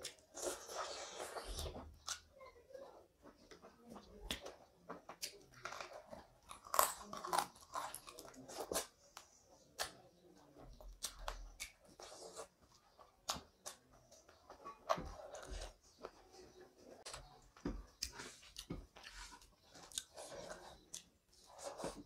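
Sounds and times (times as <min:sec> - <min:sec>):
close chewing: 0:03.4 - 0:22.0.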